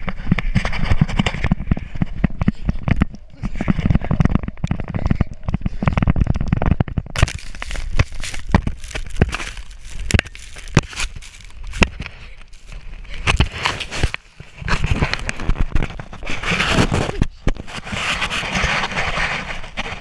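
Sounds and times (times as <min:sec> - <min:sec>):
person falling and tumbling: 0:00.0 - 0:20.0.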